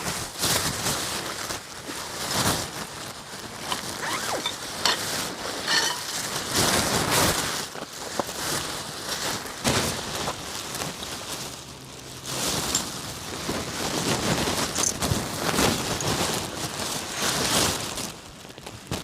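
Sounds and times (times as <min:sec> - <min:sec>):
rustling and knocks: 0:00.0 - 0:11.0, 0:12.3 - 0:17.9.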